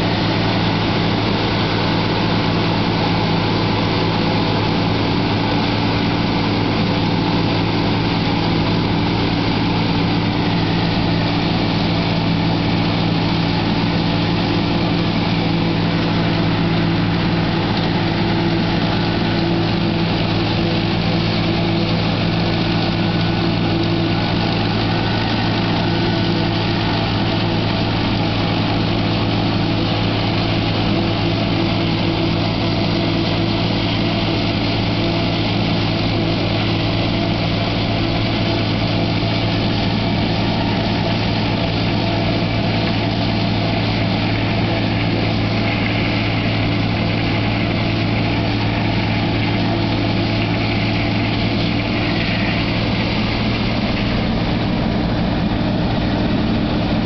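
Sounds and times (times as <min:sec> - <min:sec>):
diesel tractor engine under load: 0:00.0 - 0:57.0
forage harvester machinery: 0:00.0 - 0:57.0.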